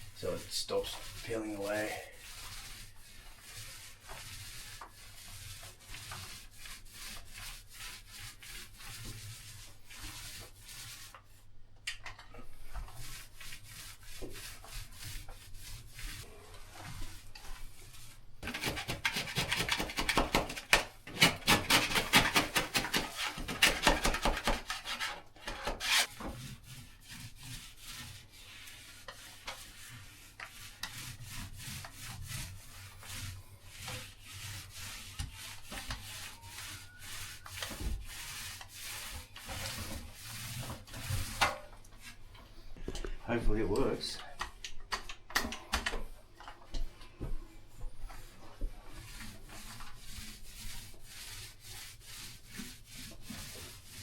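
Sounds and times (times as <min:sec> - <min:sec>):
paintbrush scrubbing strokes: 0:00.0 - 0:11.4, 0:12.4 - 0:44.6, 0:46.1 - 0:54.0.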